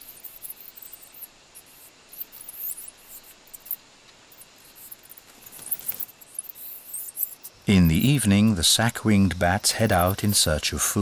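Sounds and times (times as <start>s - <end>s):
bats chirping high squeaks: 0.0s - 8.4s, 9.4s - 10.6s.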